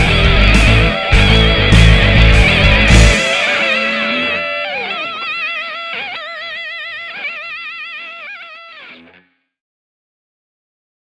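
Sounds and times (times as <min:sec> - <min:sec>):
electric guitar lead with vibrato: 0:00.0 - 0:09.3.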